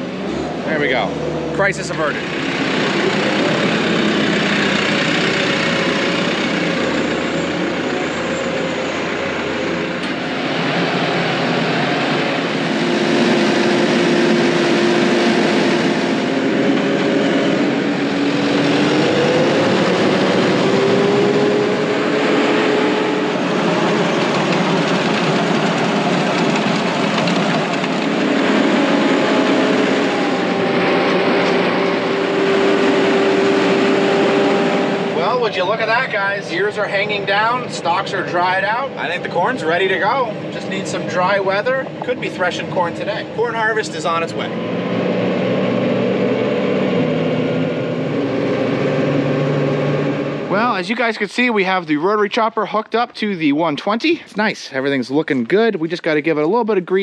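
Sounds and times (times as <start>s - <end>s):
tractor diesel engine running: 0.0s - 51.4s.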